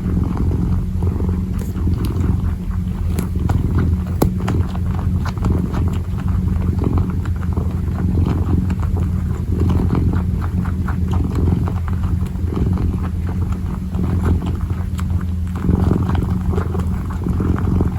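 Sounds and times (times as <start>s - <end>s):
kitten purring: 0.0s - 17.9s
paws kneading scratches: 0.0s - 17.9s.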